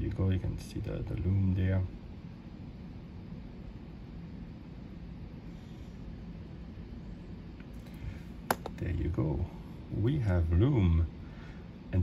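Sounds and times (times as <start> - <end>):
steady low hum and hiss: 0.0 - 12.0.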